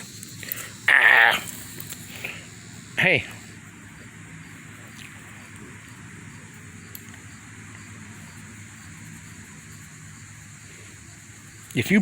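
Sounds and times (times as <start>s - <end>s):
hiss: 0.0s - 12.0s.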